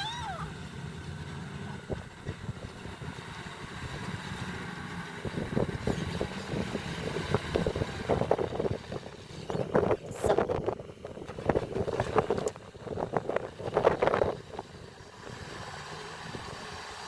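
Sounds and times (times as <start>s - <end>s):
heavy machine diesel engine: 0.0s - 17.0s.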